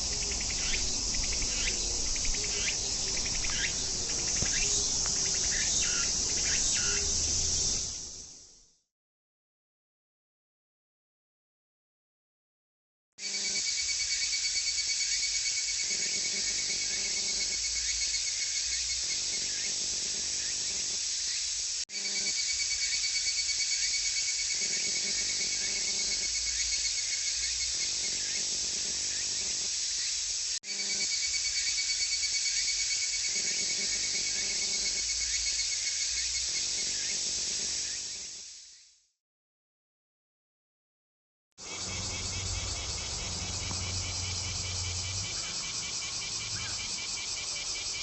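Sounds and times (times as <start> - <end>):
cicada shrill trilling: 0.0 - 8.4, 13.2 - 38.9, 41.6 - 48.0.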